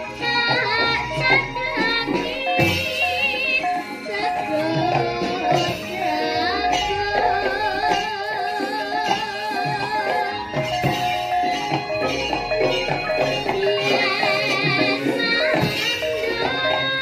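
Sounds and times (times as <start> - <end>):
metallophone notes: 0.0 - 17.0
woman singing with vibrato: 0.0 - 17.0.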